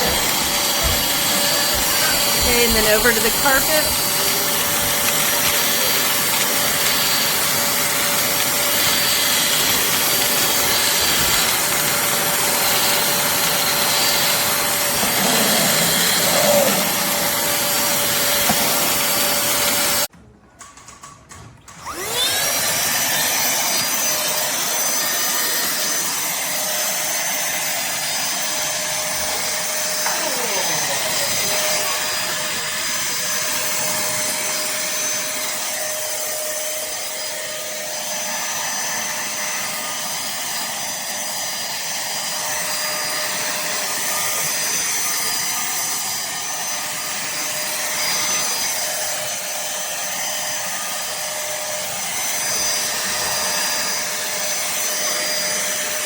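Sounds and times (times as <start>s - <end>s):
handheld vacuum cleaner running: 0.0s - 20.1s, 21.7s - 56.0s.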